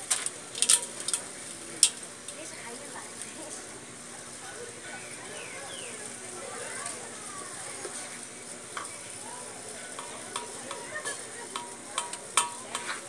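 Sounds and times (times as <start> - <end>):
cotton candy machine hissing: 0.0 - 13.0.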